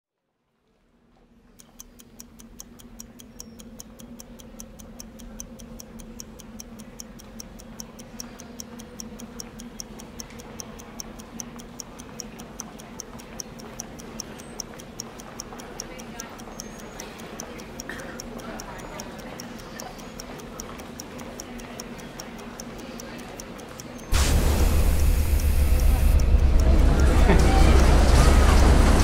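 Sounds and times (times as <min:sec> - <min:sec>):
clock ticking quickly: 0:01.6 - 0:29.0
steady low hum: 0:01.8 - 0:29.0.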